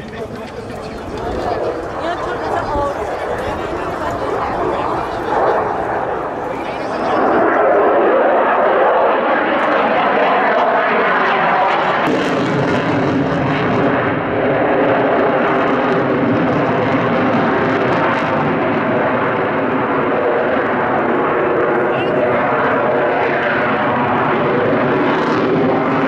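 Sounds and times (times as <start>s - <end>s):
loud jet engine noise: 0.0s - 26.0s.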